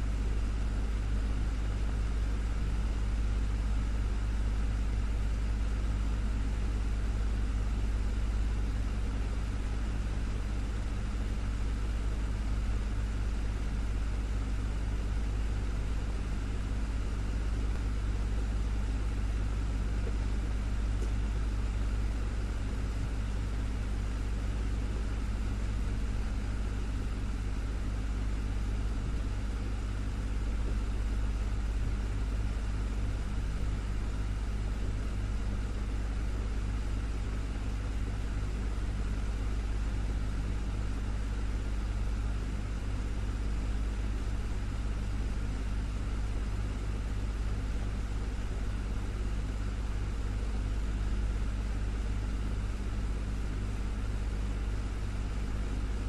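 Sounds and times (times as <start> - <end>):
desktop fan running: 0.0 - 56.0.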